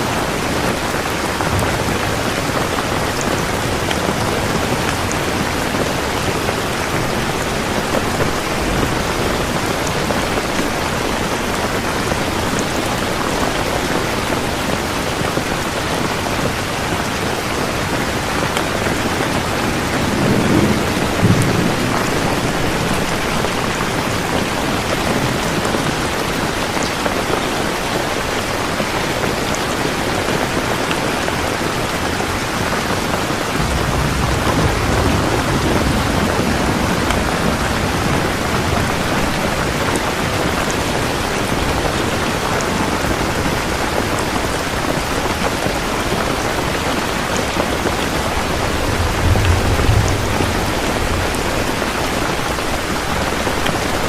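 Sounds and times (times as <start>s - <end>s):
heavy rain hissing: 0.0s - 54.0s
thunder rumbling: 0.1s - 27.4s, 32.0s - 54.0s.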